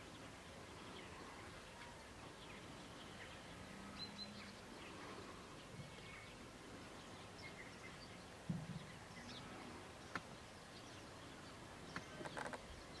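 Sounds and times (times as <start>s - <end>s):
distant small birds chirping: 0.0s - 13.0s.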